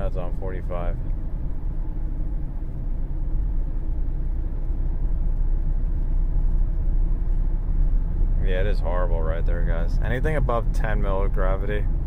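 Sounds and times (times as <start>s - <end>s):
car road and drivetrain rumble: 0.0s - 12.0s.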